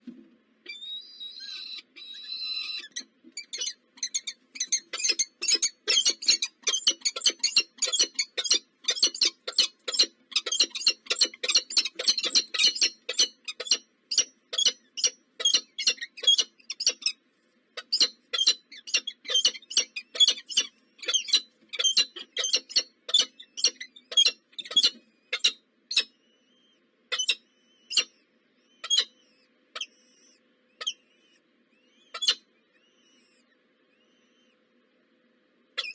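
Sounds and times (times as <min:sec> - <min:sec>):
baby birds chirping: 0:00.7 - 0:17.2, 0:17.8 - 0:34.6.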